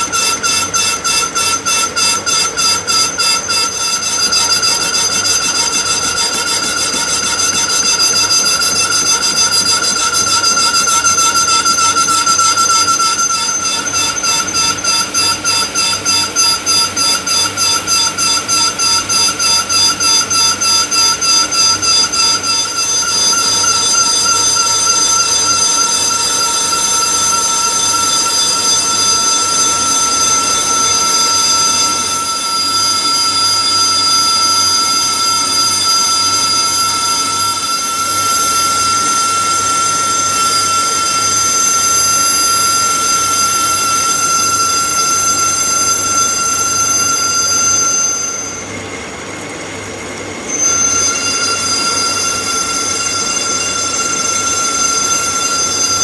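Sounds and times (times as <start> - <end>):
lathe tool bit squealing: 0.0 - 48.9, 50.4 - 56.0
lathe running: 0.0 - 56.0.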